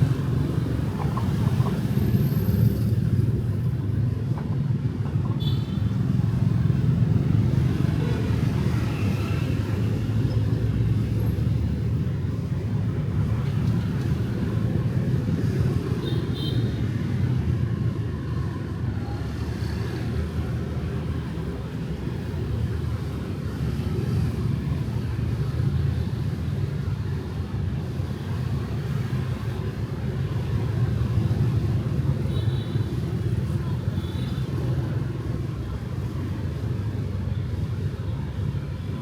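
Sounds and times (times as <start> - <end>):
motorbikes: 0.0 - 39.0
street traffic rumble: 0.0 - 39.0.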